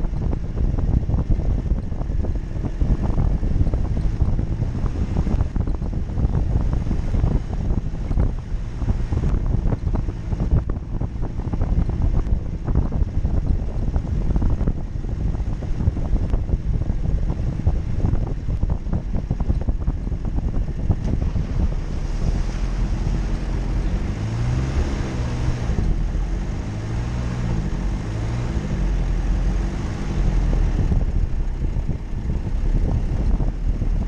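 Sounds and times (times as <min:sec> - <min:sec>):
engine and drivetrain rumble: 0:00.0 - 0:34.0
wind buffeting microphone: 0:00.0 - 0:34.0.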